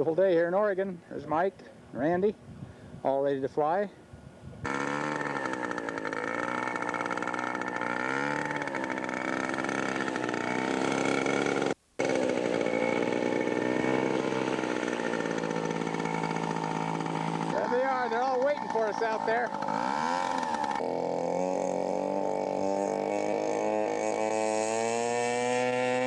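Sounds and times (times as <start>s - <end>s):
model airplane engine running: 4.6s - 26.0s.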